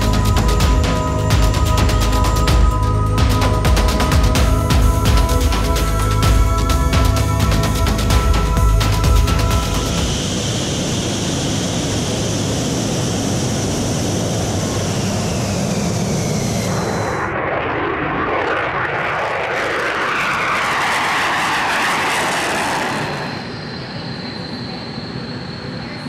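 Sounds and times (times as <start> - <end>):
jet engine whine: 0.0 - 26.0
jet taking off roar: 0.0 - 26.0.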